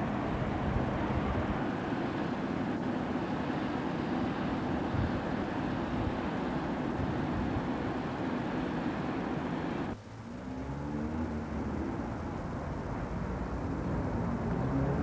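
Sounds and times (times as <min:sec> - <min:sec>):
outdoor rushing noise: 0:00.0 - 0:15.0
street traffic: 0:00.0 - 0:15.0.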